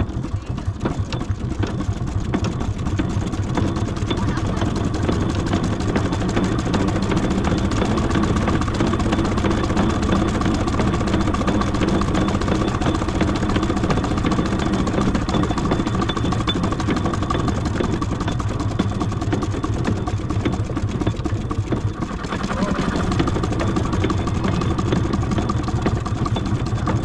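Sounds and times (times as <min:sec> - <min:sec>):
steady mechanical whine: 0:00.0 - 0:27.0
steam engine mechanical clatter: 0:00.0 - 0:27.0.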